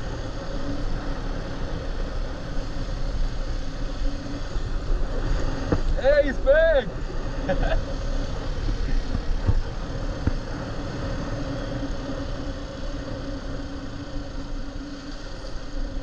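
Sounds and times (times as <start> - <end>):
motorbike engine running steadily: 0.0 - 16.0
wind and road noise: 0.0 - 16.0.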